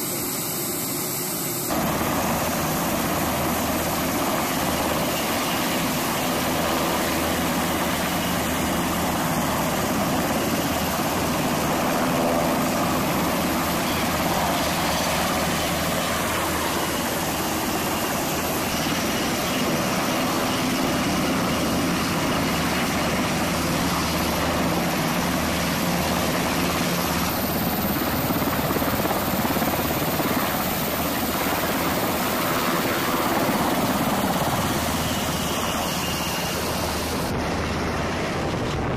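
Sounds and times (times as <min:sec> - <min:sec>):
helicopter rotors and turbines: 0:00.0 - 0:38.9.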